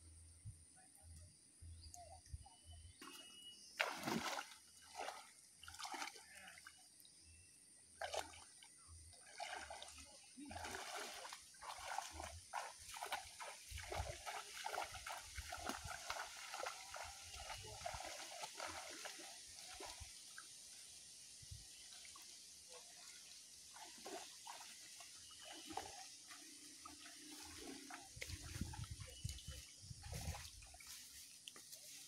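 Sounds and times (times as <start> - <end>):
muddy water splashing and sloshing: 3.8 - 7.0, 7.8 - 32.0.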